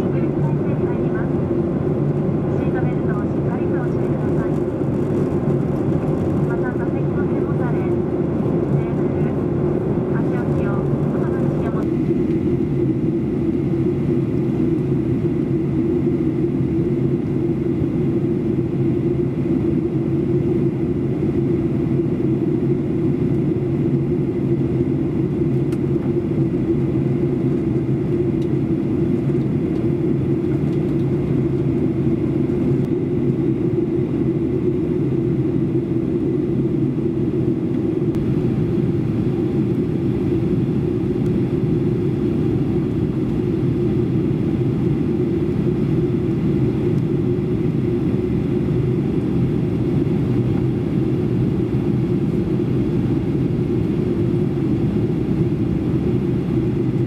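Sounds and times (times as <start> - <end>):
jet cabin low rumble: 0.0 - 57.0.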